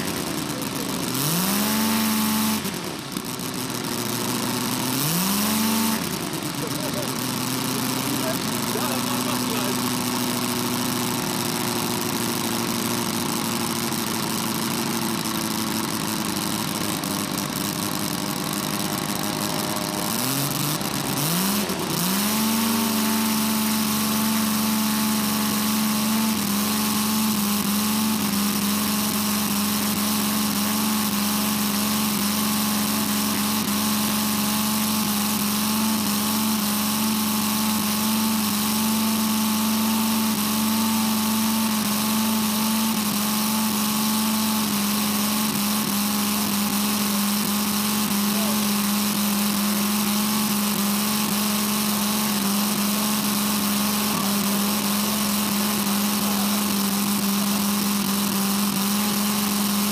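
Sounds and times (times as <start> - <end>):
model rotary aero engine running: 0.0 - 59.9.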